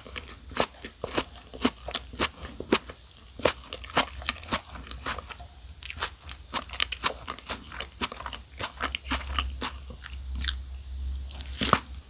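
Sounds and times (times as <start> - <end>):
chewing crunches: 0.0 - 12.0
steady low hum: 0.0 - 12.0.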